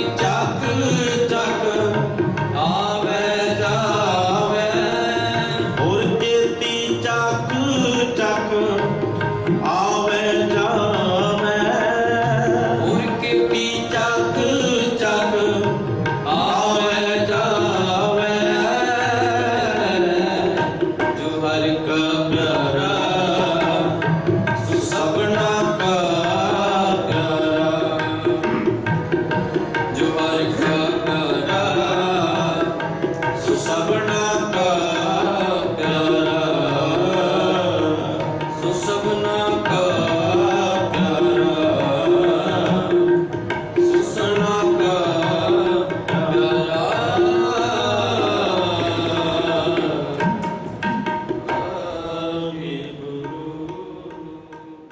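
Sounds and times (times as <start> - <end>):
harmonium chords: 0.0 - 54.9
man singing: 0.0 - 54.9
tabla playing rhythm: 0.0 - 54.9.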